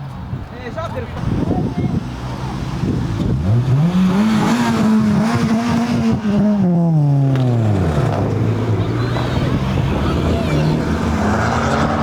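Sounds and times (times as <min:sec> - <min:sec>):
car engine accelerating hard: 0:01.2 - 0:12.0.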